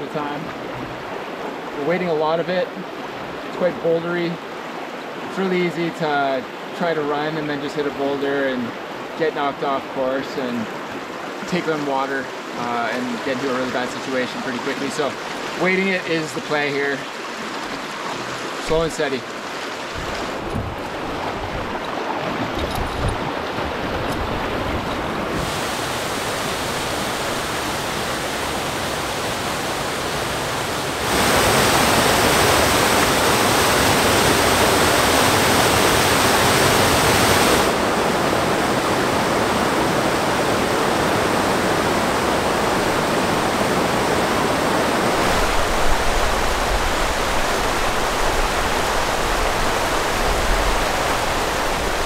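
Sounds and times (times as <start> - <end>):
whitewater roaring: 0.0 - 52.0.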